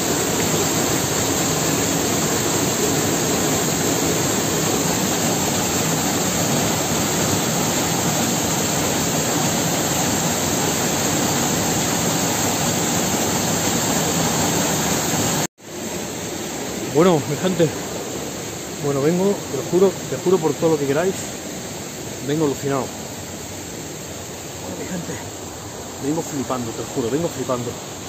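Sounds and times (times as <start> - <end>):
waterfall rushing into pool: 0.0 - 28.0.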